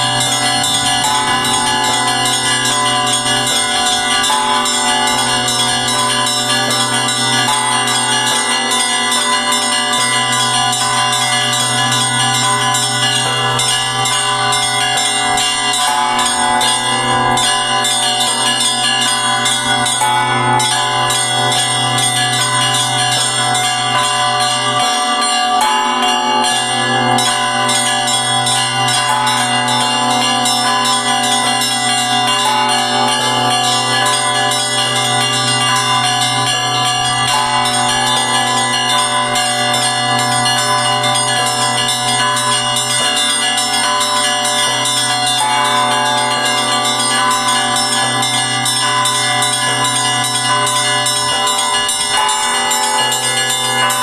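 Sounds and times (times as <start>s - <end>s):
deep hum of a large bell: 0.0s - 54.0s
small bells chiming: 0.0s - 54.0s.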